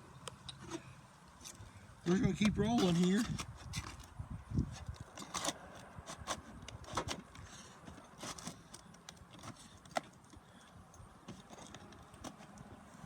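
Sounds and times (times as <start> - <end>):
shingles scraping and clicking: 0.6 - 13.0.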